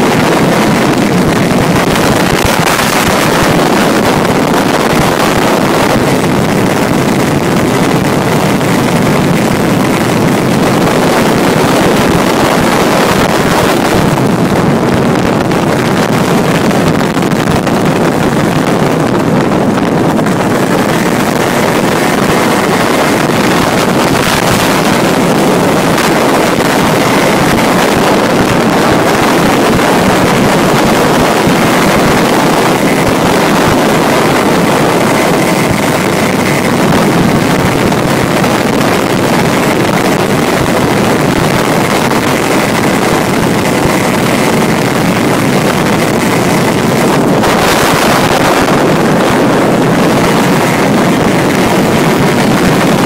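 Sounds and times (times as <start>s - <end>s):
scooter engine running hard: 0.0s - 53.0s
wind buffeting microphone: 0.0s - 53.0s.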